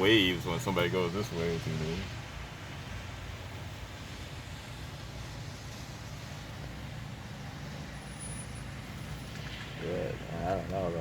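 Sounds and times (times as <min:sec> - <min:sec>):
constant hiss: 0:00.0 - 0:11.0.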